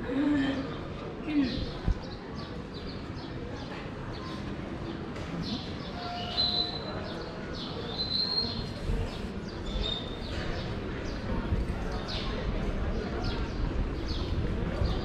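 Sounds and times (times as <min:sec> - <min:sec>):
murmur of voices: 0:00.0 - 0:15.0.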